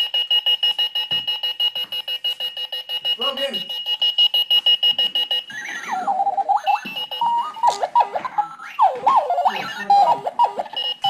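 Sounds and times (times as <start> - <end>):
warbling electronic alarm chirps: 0.0 - 11.0.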